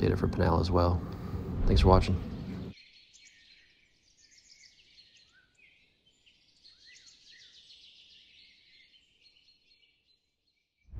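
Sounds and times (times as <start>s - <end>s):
small birds chirping and trilling: 0.0s - 10.9s.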